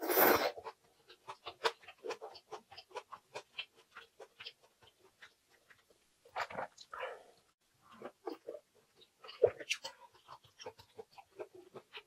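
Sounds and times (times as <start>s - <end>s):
chewing fried rice: 0.5s - 6.9s, 7.8s - 12.0s.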